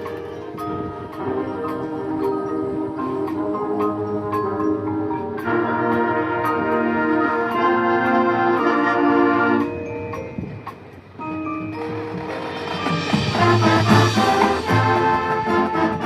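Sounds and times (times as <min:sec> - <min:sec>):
marimba and glockenspiel: 0:00.0 - 0:16.0
marching band chords: 0:00.2 - 0:09.9, 0:11.6 - 0:16.0.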